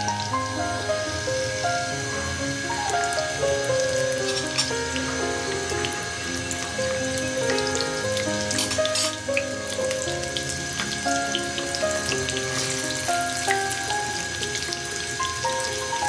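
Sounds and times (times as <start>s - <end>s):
fish deep-frying in oil: 0.0s - 16.0s
instrumental background music: 0.0s - 16.0s.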